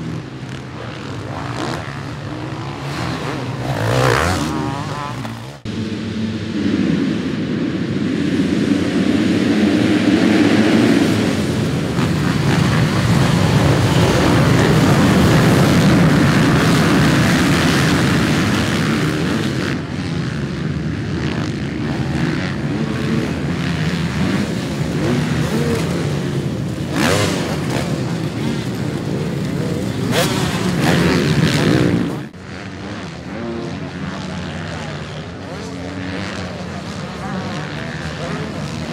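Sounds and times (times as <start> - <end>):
bikes racing past: 0.0 - 5.7, 8.1 - 38.9
motocross bikes revving: 0.0 - 38.9.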